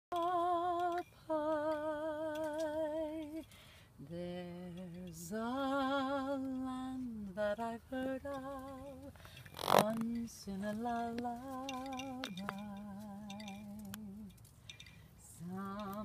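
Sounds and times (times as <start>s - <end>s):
woman singing with vibrato: 0.1s - 14.4s, 15.2s - 16.0s.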